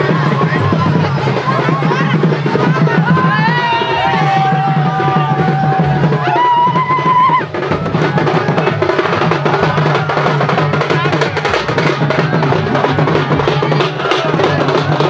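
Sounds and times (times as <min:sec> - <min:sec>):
procession drums playing fast: 0:00.0 - 0:15.0.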